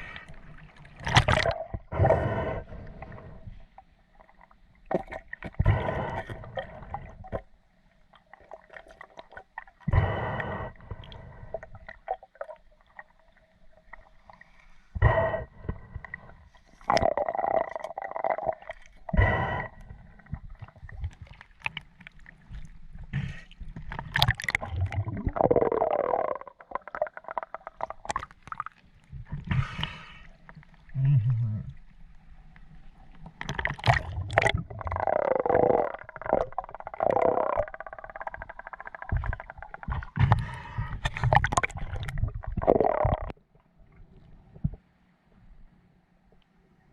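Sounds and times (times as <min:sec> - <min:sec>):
water gurgling and sloshing: 0:00.0 - 0:46.9.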